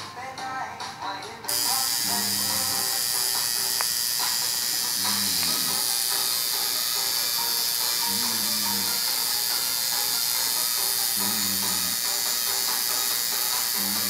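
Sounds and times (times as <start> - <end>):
tattoo machine buzzing: 1.5 - 14.0.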